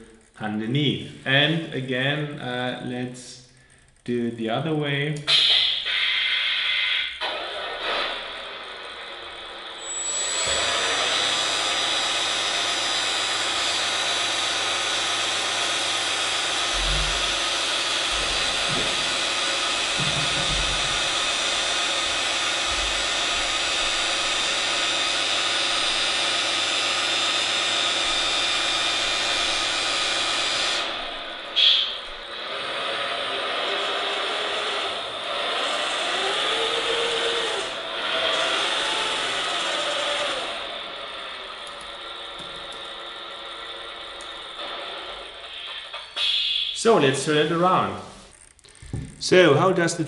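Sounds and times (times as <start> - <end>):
hydraulic pump whine: 5.2 - 49.4.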